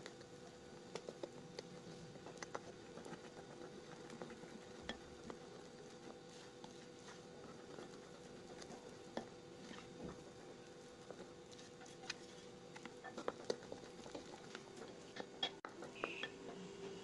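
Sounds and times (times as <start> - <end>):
spatula squishing cake batter: 0.0 - 17.0.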